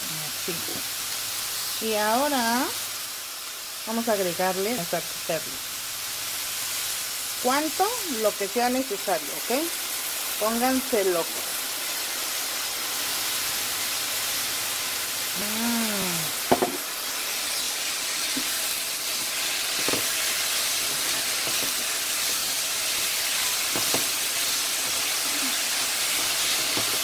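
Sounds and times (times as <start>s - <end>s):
mushrooms sizzling in a pan: 0.0s - 27.0s.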